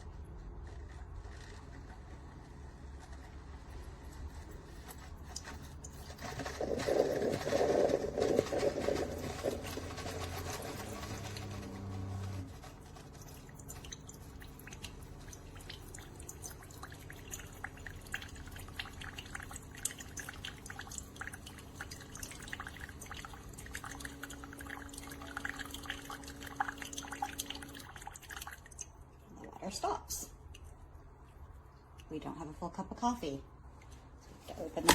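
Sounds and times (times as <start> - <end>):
coffee maker pump humming: 0.0 - 31.4
coffee pouring and dripping: 0.1 - 32.0.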